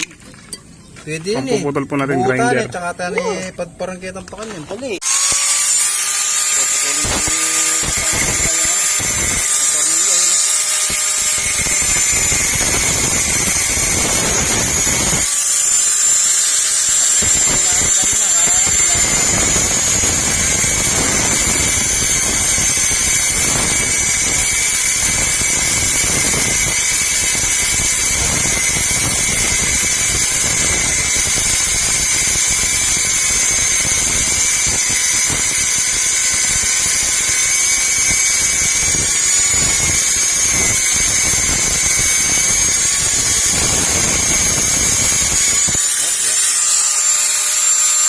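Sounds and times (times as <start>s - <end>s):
angle grinder cutting: 2.4s - 48.0s.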